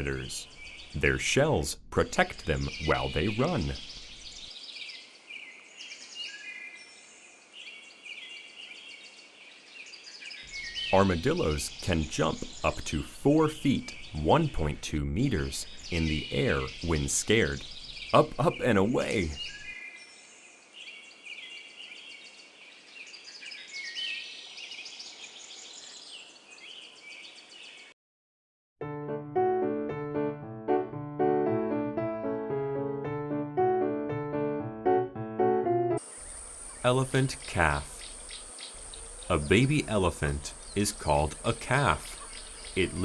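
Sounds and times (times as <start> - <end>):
small birds chirping: 0.0 - 28.0, 36.0 - 43.0.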